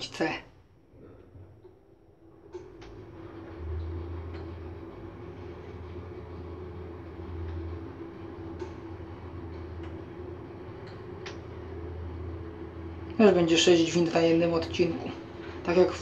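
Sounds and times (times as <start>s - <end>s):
lift humming and rumbling: 0.0s - 16.0s.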